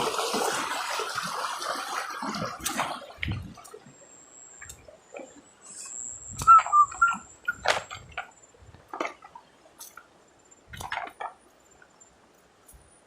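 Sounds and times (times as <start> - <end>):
water sounds: 0.0 - 12.3.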